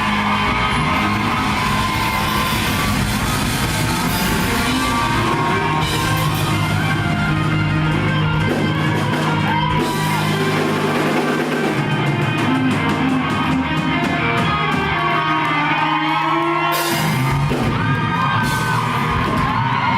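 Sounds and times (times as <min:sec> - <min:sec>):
crowd yelling along: 0:00.0 - 0:19.9
live rock band playing: 0:00.0 - 0:19.9.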